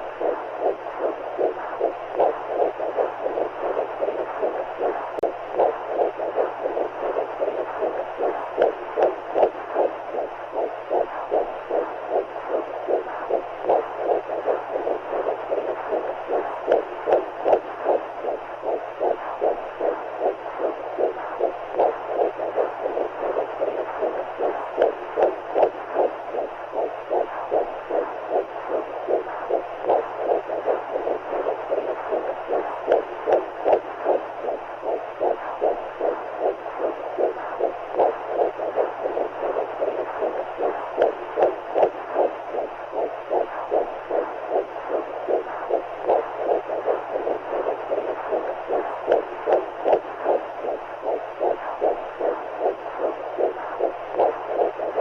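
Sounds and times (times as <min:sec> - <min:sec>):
low hum: 0:00.0 - 0:55.0
whooshing heartbeat pulses: 0:00.0 - 0:55.0.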